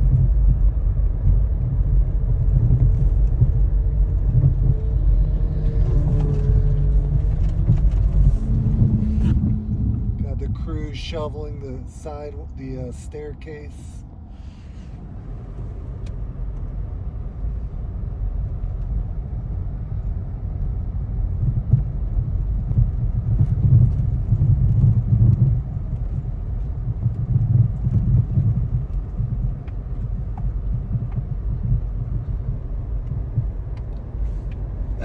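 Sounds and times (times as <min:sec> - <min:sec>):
car rumble from inside: 0:00.0 - 0:35.0.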